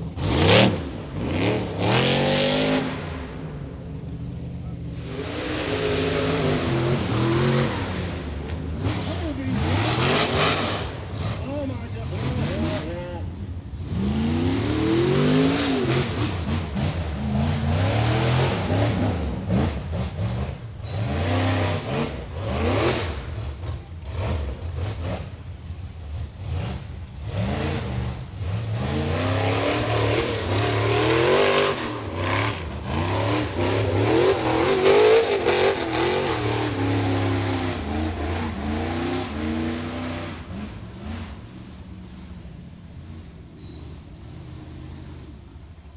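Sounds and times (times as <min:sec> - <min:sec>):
buggy engine revving hard: 0:00.0 - 0:43.2.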